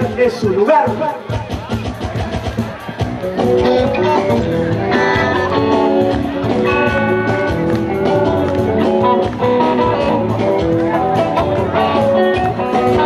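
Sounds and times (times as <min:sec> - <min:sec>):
live rock music: 0:00.0 - 0:13.0
electric guitar: 0:01.8 - 0:13.0.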